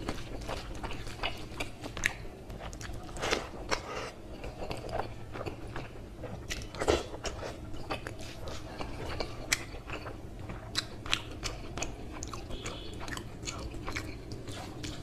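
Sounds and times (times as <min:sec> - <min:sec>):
man chewing food: 0:00.0 - 0:15.0.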